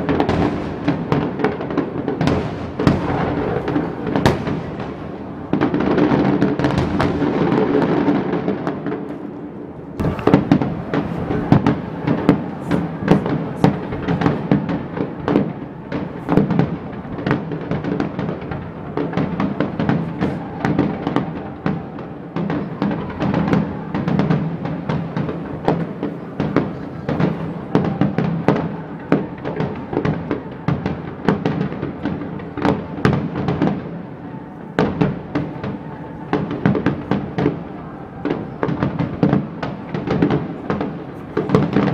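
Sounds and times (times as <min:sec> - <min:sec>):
fireworks bangs and cracks: 0:00.0 - 0:41.9
fireworks crackling: 0:00.0 - 0:41.9.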